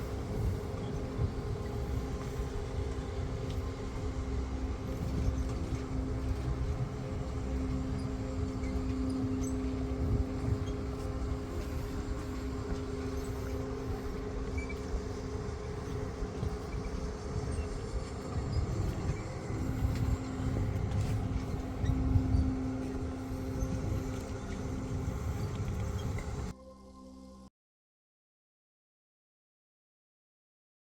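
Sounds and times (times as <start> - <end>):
low rumble: 0.0 - 26.6
droning hum: 0.0 - 27.5.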